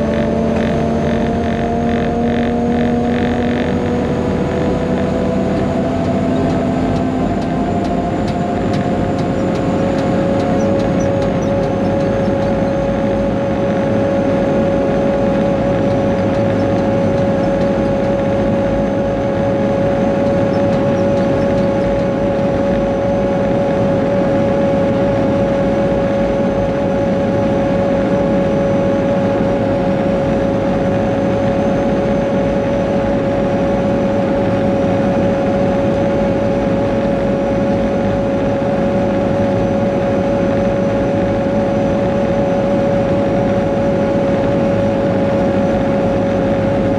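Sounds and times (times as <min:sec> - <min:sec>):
constant whine: 0:00.0 - 0:46.9
diesel engine running: 0:00.0 - 0:46.9.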